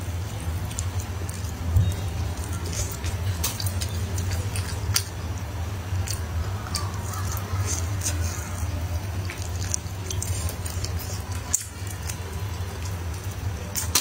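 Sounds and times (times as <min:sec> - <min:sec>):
chewing and biting meat: 0:00.0 - 0:14.0
steady low hum: 0:00.0 - 0:14.0.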